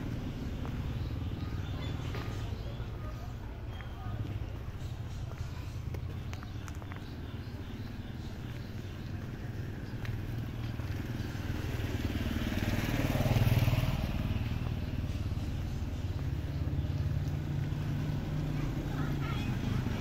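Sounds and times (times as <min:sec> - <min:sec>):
motor scooter passing by: 0:00.0 - 0:20.0.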